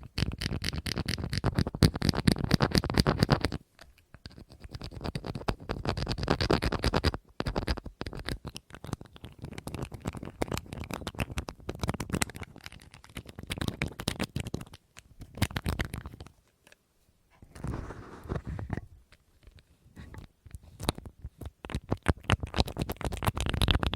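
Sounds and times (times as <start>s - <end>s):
tapping and scratching on hard object: 0.0s - 16.8s, 17.4s - 23.9s.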